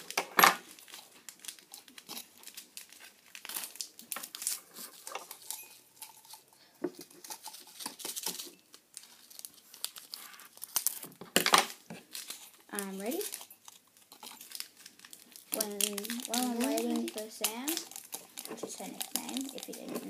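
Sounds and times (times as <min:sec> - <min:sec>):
candy packets crinkling and tearing: 0:00.0 - 0:20.0.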